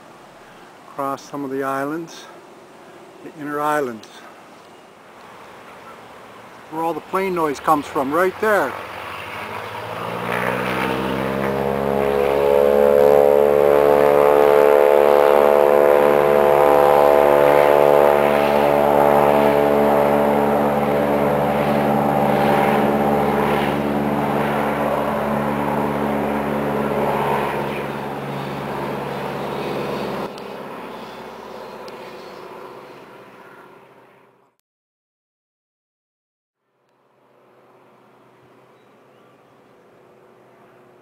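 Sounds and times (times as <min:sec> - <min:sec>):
propeller airplane engine drone: 0:02.2 - 0:34.6, 0:36.6 - 0:41.0.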